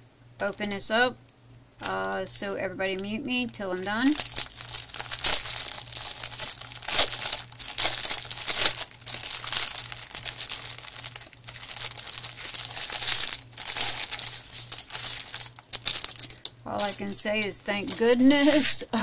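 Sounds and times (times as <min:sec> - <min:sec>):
plastic bag crinkling: 0:01.8 - 0:19.0.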